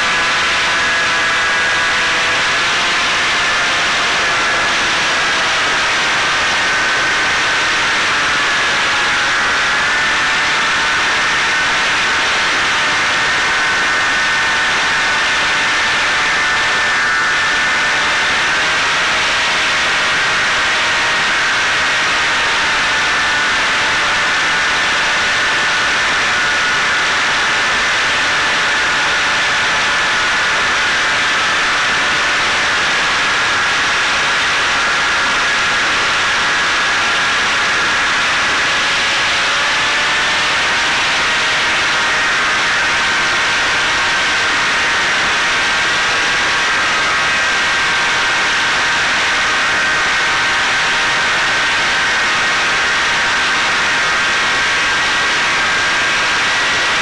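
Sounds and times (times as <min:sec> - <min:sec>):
drone motor high whine: 0:00.0 - 0:57.0.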